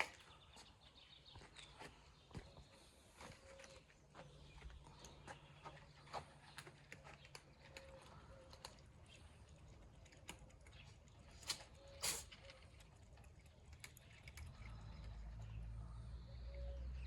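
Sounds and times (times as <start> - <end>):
cats chewing: 3.0 - 16.6.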